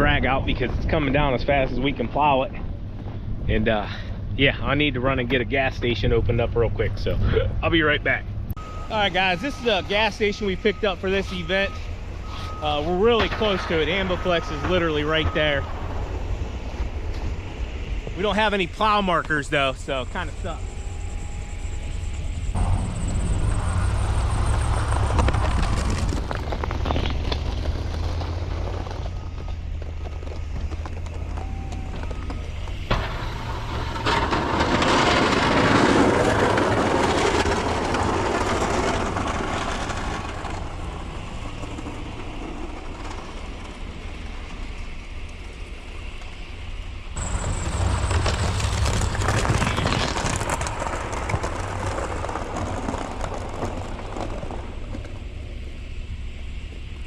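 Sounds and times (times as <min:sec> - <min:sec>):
truck engine running under load: 0:08.3 - 0:57.0
plow blade scraping snow: 0:08.7 - 0:46.2, 0:47.2 - 0:55.4.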